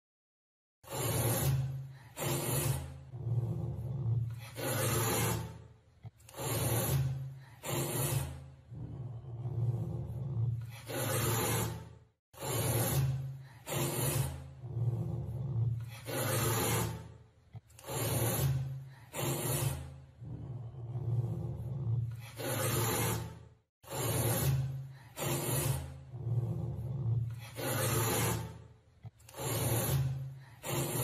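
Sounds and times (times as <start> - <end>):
wild cat growling: 0.8 - 31.0.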